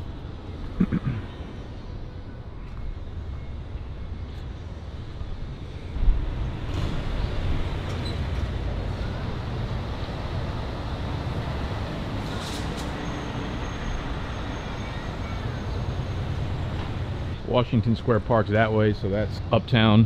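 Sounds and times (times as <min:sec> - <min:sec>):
city street traffic rumble: 0:00.0 - 0:20.0.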